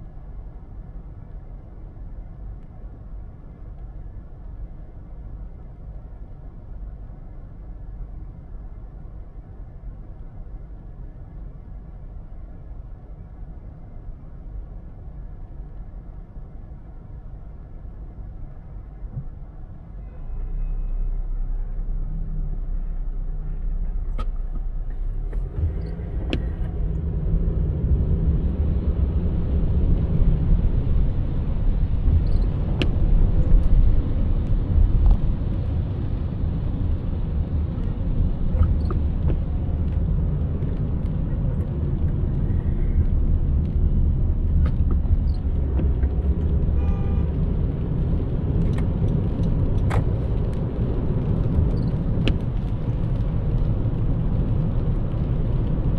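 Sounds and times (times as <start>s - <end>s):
road rumble and tyre noise: 0.0s - 55.9s.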